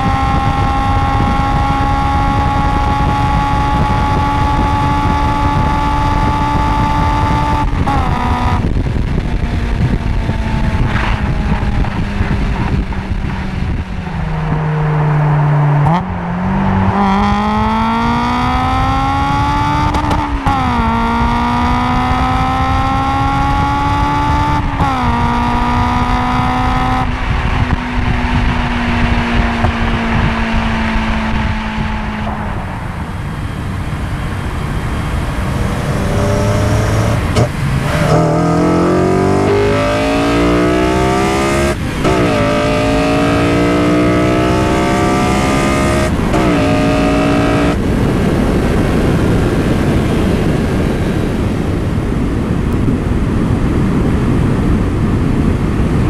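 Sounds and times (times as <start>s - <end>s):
car engine revving: 0.0s - 55.3s.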